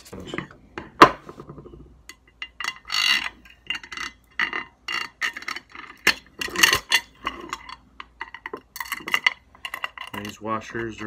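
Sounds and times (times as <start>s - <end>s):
metal parts clinking and scraping: 2.1s - 11.0s.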